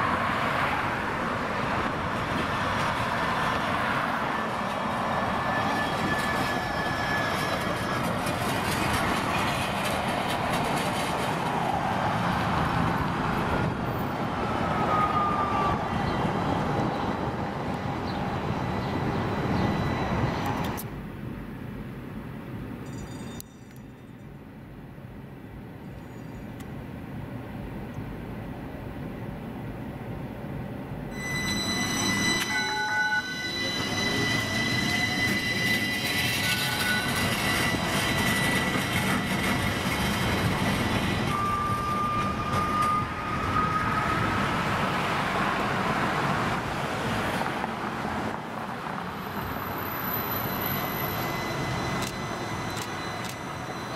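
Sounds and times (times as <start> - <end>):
road traffic: 0.0 - 53.9
streetcar passing: 0.0 - 53.9.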